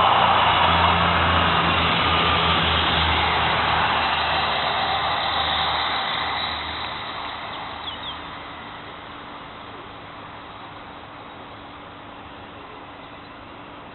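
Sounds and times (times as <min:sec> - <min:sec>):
rumble of train wheels: 0:00.0 - 0:13.9
train diesel engine drone: 0:00.0 - 0:13.9.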